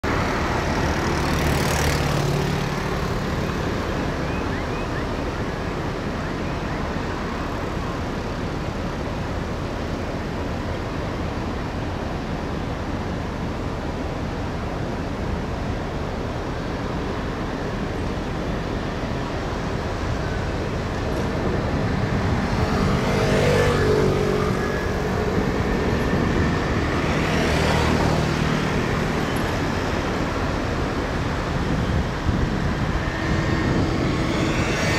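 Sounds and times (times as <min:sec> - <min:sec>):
urban traffic hum: 0:00.0 - 0:34.9
vehicles passing close by: 0:00.0 - 0:34.9.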